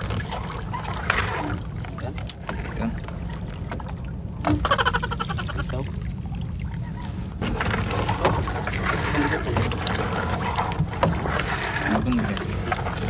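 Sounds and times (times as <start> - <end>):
knocks and rustles against hull: 0.0 - 5.8, 6.5 - 13.0
water splashing and sloshing: 0.0 - 13.0.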